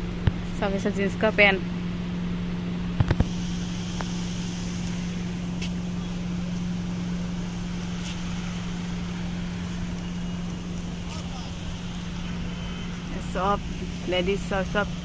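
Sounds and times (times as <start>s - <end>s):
steady low machine hum: 0.0s - 15.0s.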